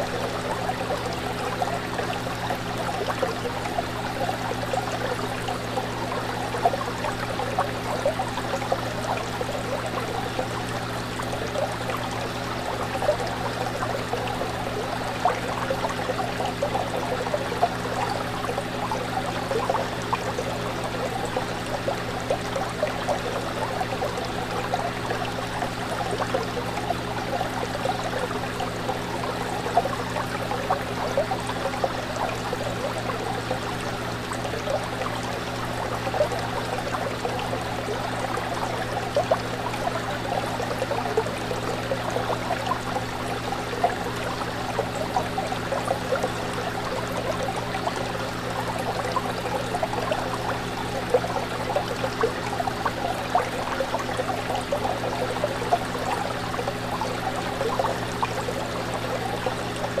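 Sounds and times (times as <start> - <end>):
fish tank water bubbling: 0.0 - 60.0
tank pump hum: 0.0 - 60.0.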